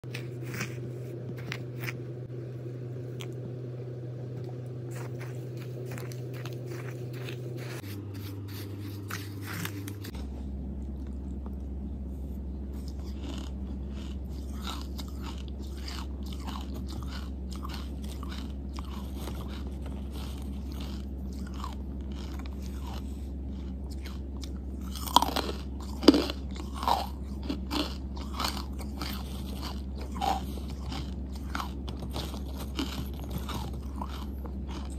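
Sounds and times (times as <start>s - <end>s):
crunching and chewing charcoal: 0.0s - 2.3s, 3.0s - 3.6s, 4.3s - 34.9s
steady low hum: 0.0s - 34.9s.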